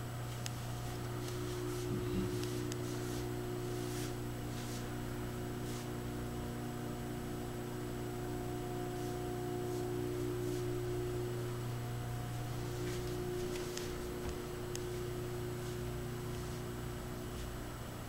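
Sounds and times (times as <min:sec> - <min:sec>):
low electrical hum: 0:00.0 - 0:18.0
steady higher tones: 0:00.0 - 0:18.0.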